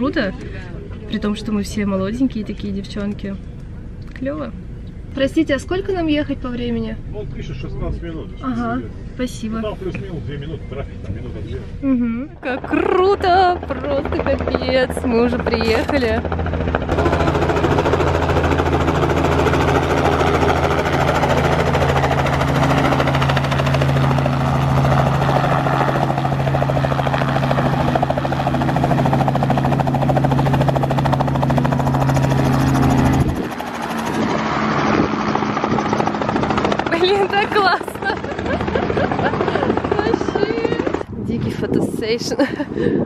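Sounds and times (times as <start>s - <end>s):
helicopter rotor and engine: 0.0s - 43.0s.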